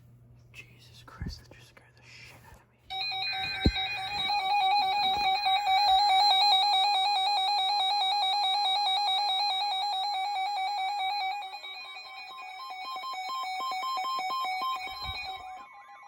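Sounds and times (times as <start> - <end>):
warbling electronic alarm tone: 2.9 - 16.0.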